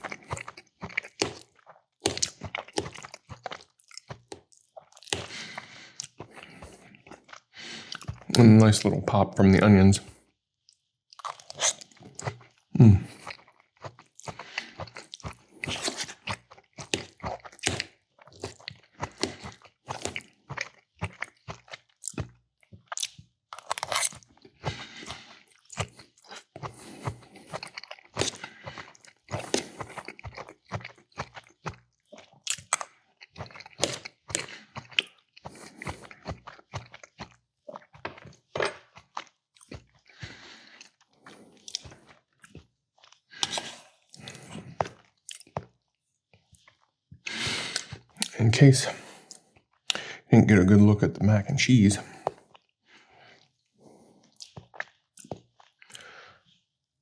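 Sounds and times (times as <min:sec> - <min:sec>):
person chewing crunchy food: 0:00.0 - 0:09.0, 0:10.0 - 0:50.1, 0:52.0 - 0:56.6.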